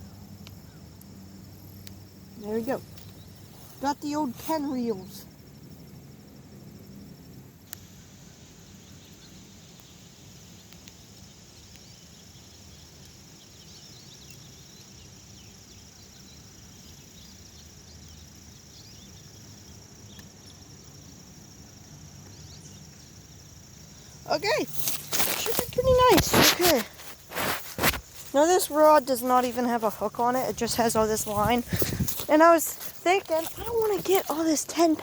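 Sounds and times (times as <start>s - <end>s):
chorus of insects droning: 0.0s - 35.0s.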